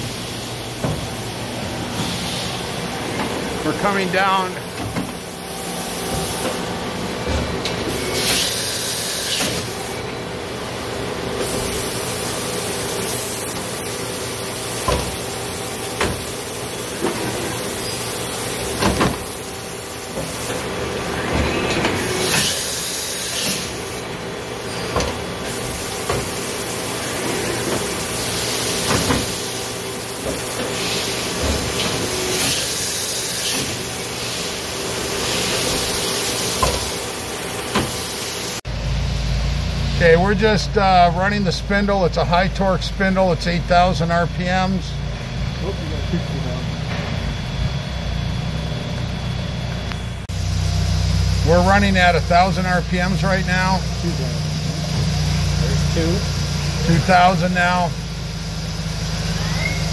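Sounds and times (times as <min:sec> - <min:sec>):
machine hum: 0:00.0 - 0:59.9.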